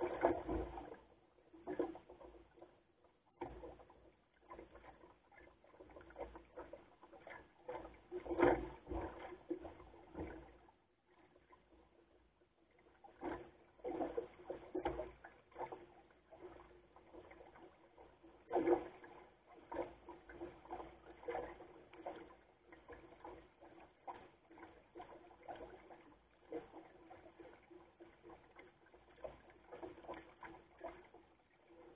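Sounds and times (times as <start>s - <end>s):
water slapping against boat hull: 0.0s - 10.6s, 13.0s - 31.9s.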